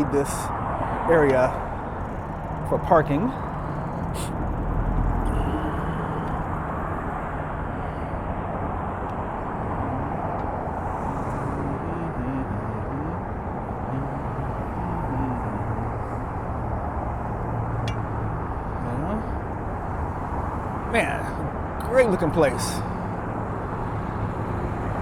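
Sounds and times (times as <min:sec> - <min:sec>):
constant background hum: 0:00.0 - 0:25.0
vehicle engines running: 0:00.0 - 0:25.0.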